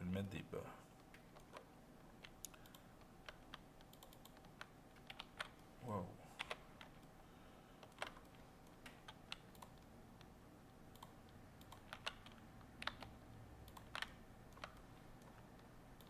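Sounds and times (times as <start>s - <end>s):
low steady hiss: 0.0s - 16.0s
keyboard and mouse clicks: 1.0s - 5.7s, 6.4s - 7.2s, 7.8s - 16.0s.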